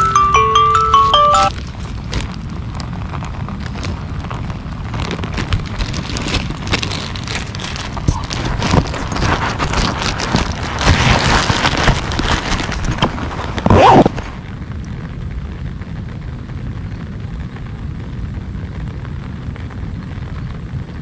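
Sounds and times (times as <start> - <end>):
wind buffeting microphone: 1.6 - 21.0.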